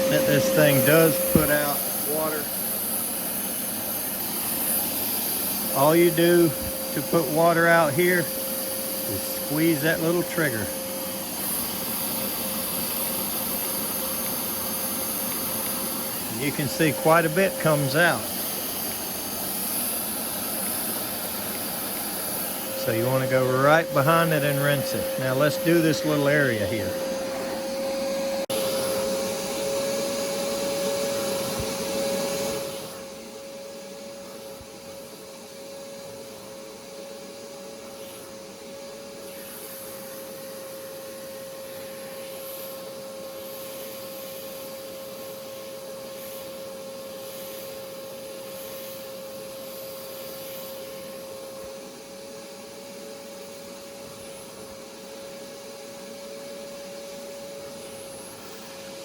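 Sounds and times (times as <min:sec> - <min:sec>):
vacuum motor whining: 0:00.0 - 0:59.0.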